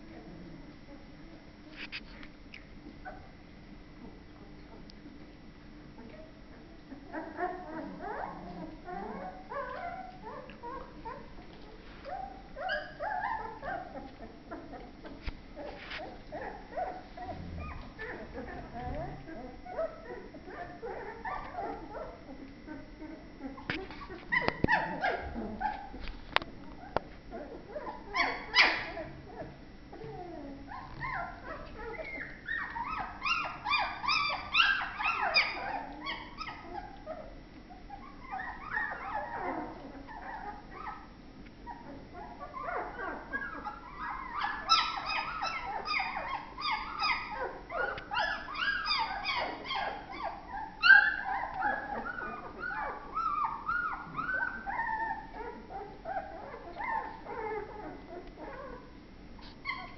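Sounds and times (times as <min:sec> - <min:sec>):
puppies yipping and squealing: 0:06.0 - 0:26.2, 0:26.8 - 0:59.9.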